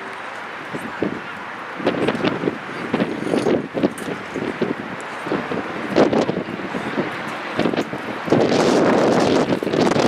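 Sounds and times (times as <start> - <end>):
road traffic: 0.0 - 10.0
wind gusting on microphone: 0.0 - 10.0.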